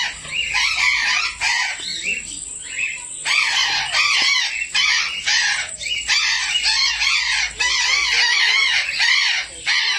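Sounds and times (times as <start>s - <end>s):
aviary birds chattering and squawking: 0.0s - 9.9s.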